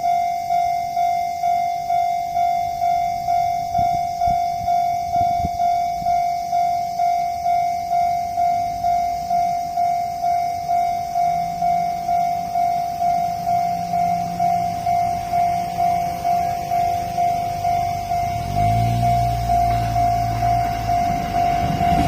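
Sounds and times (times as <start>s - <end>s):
level-crossing warning bell: 0.0s - 22.0s.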